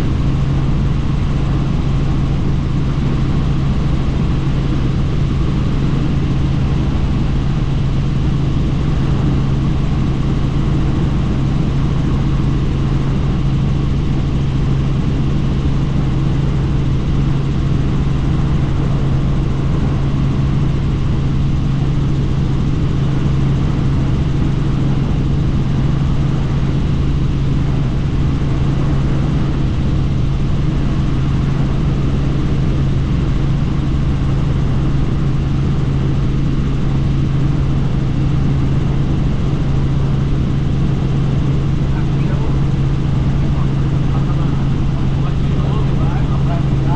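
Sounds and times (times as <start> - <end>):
helicopter rotor and engine drone: 0.0 - 46.9.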